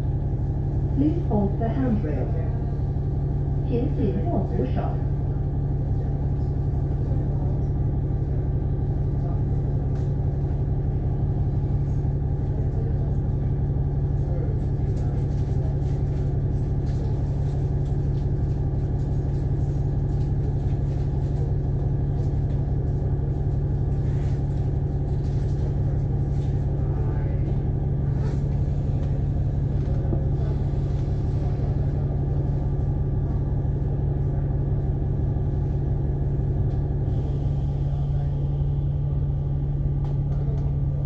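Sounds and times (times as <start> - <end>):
bus engine hum and rumble: 0.0 - 41.0.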